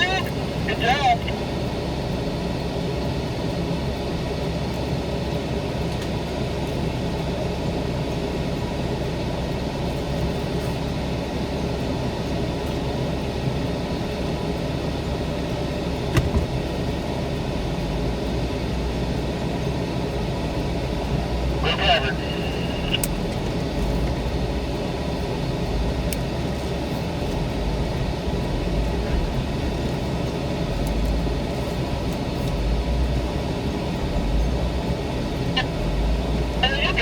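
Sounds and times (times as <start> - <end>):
off-road vehicle engine running: 0.0 - 37.0.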